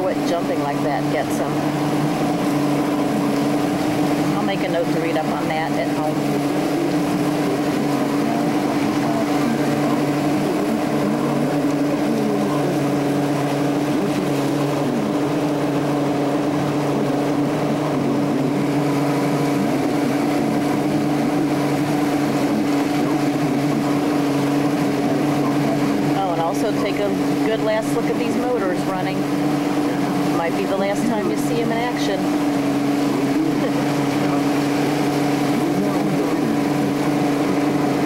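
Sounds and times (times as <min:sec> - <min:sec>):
outboard motor droning: 0:00.0 - 0:38.0
water rushing and splashing: 0:00.0 - 0:38.0.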